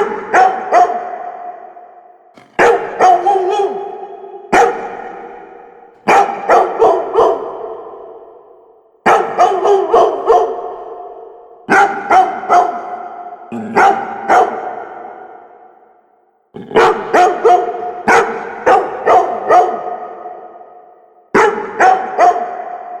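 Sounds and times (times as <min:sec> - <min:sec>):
dog barking with echo: 0:00.0 - 0:23.0.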